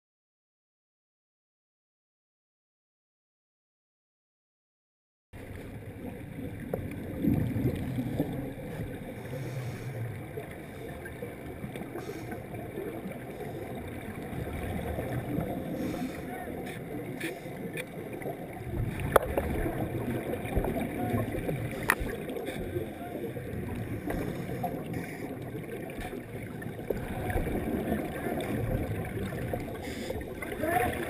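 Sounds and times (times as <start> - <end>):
scuba bubbles rumbling and gurgling: 5.4 - 31.0.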